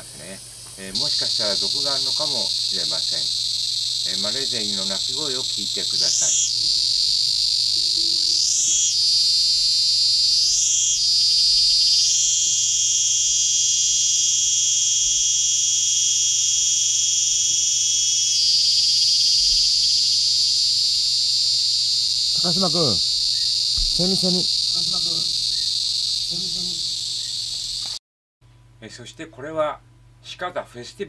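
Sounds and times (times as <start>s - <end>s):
cicada singing: 0.0s - 28.0s.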